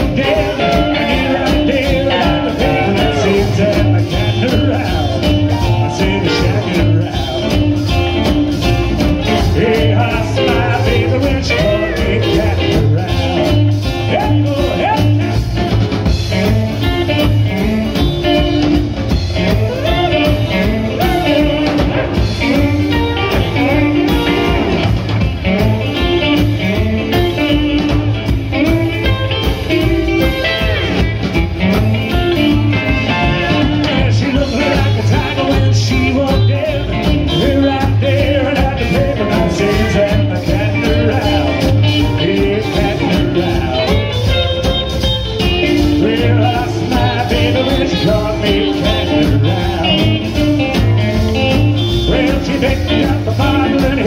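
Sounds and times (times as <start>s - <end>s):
drums: 0.0s - 54.0s
electric guitars: 0.0s - 54.0s
steel guitar: 0.0s - 54.0s
upright double bass: 0.0s - 54.0s.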